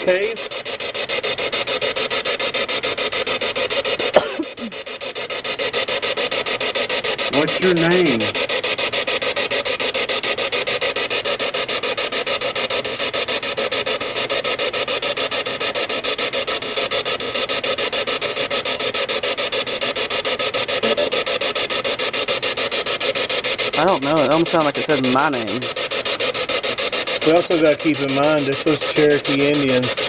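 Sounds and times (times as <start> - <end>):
radio static chopped rapidly: 0.0 - 30.0.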